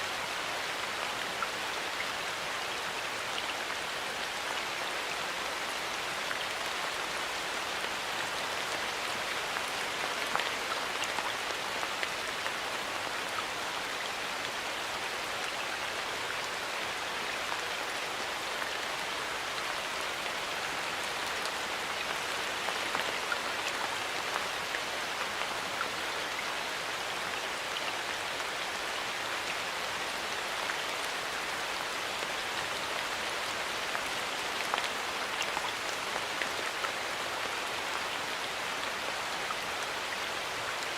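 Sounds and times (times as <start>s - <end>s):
light rain pattering on leaves: 0.0s - 40.9s.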